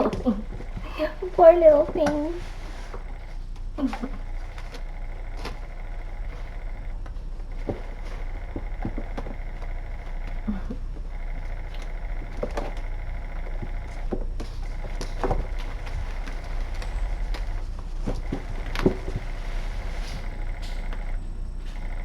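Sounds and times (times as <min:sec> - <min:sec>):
electrical hum: 0:00.0 - 0:22.0
kittens scampering and playing: 0:00.0 - 0:22.0.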